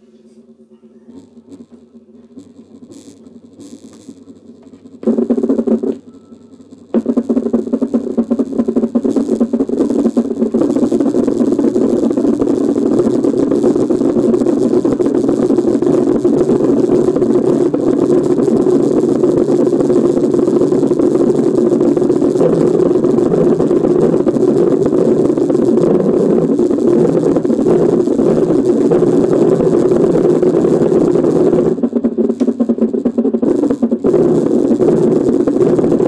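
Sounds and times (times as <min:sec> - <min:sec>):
keyboard engine sound effect rumble: 0:00.0 - 0:36.0.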